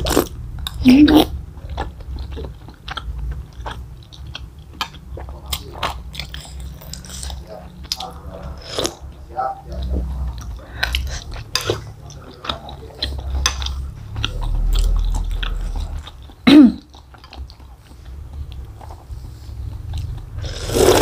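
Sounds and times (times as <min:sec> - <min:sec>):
wet chewing mouth sounds: 0:00.0 - 0:09.0, 0:09.7 - 0:21.0.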